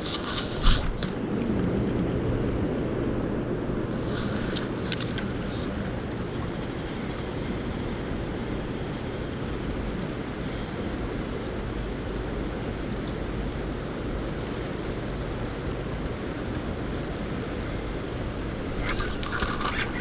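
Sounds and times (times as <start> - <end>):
faint low hum: 0.0 - 20.0
water rushing from turbines: 0.0 - 20.0.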